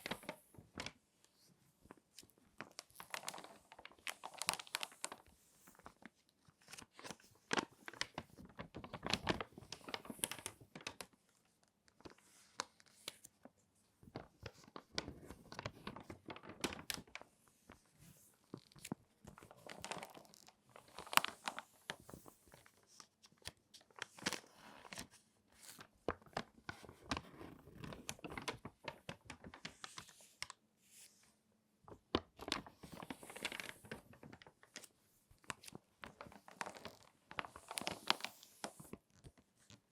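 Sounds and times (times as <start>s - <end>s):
magazine pages crinkling: 1.9s - 11.2s, 14.1s - 17.3s, 18.4s - 30.6s, 31.9s - 39.8s.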